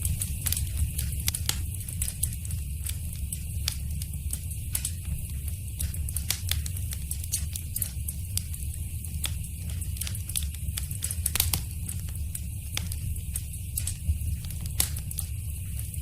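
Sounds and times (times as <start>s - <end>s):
fire crackling with sharp pops: 0.0s - 16.0s
low rumble of flames: 0.0s - 16.0s.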